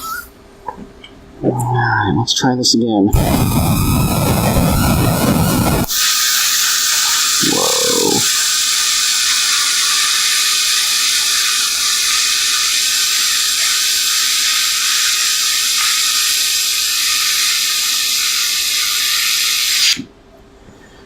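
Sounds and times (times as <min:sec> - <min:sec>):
welding arc hissing: 0:03.1 - 0:20.1.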